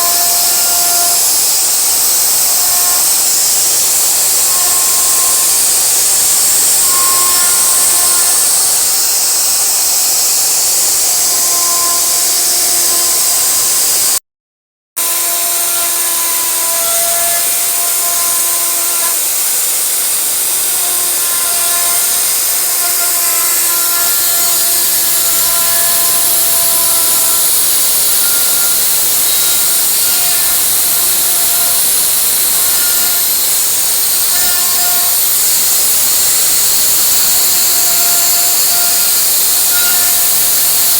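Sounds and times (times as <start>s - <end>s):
humming motor tones: 0.0s - 14.2s, 15.0s - 40.9s
wood router carving hiss: 0.0s - 14.2s, 15.0s - 40.9s.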